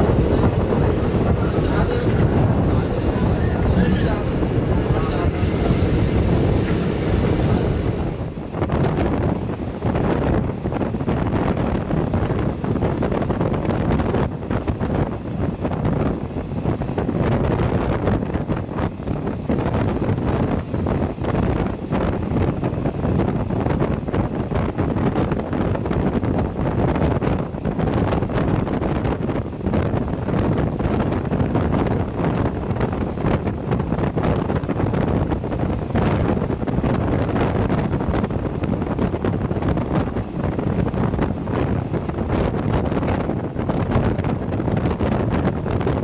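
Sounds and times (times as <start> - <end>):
train running noise: 0.0 - 46.0
wind buffeting microphone: 0.0 - 46.0.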